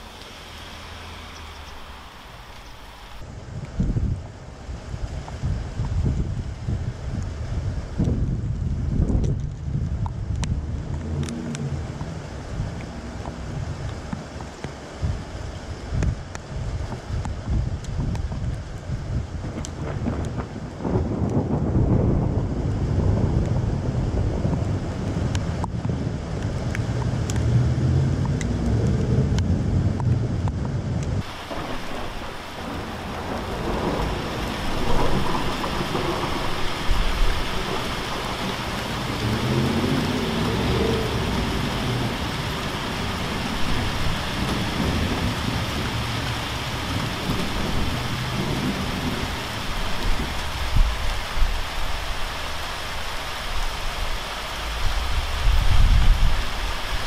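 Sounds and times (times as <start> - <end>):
rain falling on paving and cars: 0.0 - 57.0
wind buffeting microphone: 3.2 - 57.0
thunder rumbling: 8.1 - 14.4, 17.5 - 57.0.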